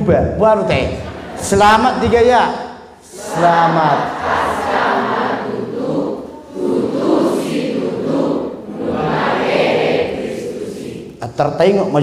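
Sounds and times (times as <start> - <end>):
congregation speaking in unison: 0.0 - 12.0.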